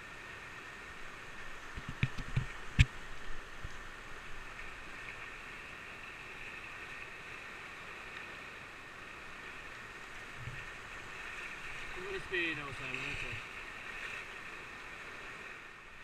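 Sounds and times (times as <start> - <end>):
river rapids rushing: 2.6 - 16.0.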